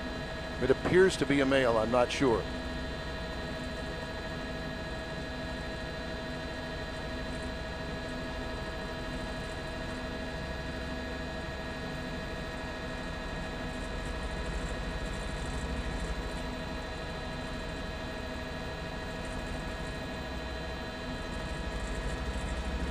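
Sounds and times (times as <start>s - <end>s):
helicopter drone with whine: 0.0s - 22.9s.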